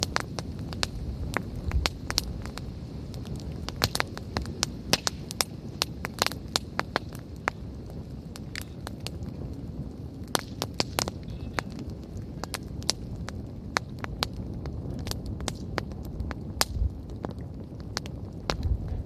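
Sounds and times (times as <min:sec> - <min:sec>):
campfire pops and snaps: 0:00.0 - 0:19.0
low rumble of flames: 0:00.0 - 0:19.0.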